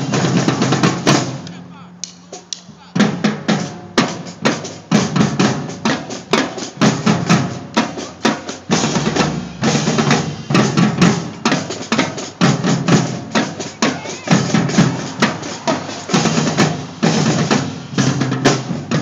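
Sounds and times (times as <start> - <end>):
marching drumline: 0.0 - 19.0.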